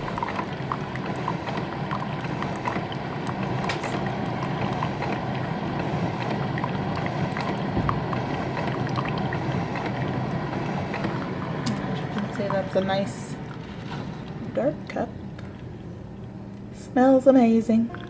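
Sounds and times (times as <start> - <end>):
coffee streaming into cup: 0.0 - 14.6
coffee maker pump noise: 0.0 - 16.0
small drips and clicks: 0.0 - 16.7.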